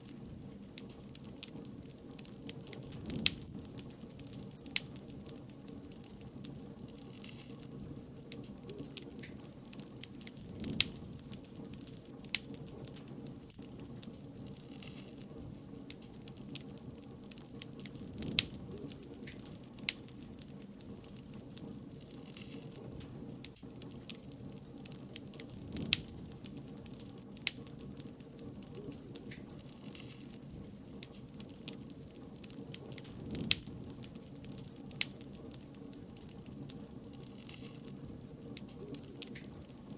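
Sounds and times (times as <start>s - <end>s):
sharp pops from fire: 0.0s - 39.9s
wood fire crackling: 0.0s - 39.9s.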